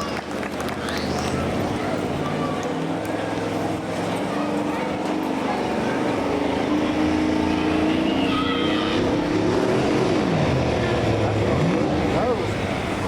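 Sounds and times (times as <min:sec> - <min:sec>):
diesel engine running hard: 0:00.0 - 0:13.0.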